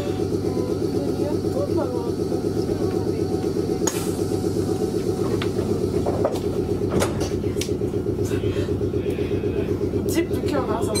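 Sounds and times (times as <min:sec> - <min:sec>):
train motors and wheels rumbling: 0:00.0 - 0:11.0.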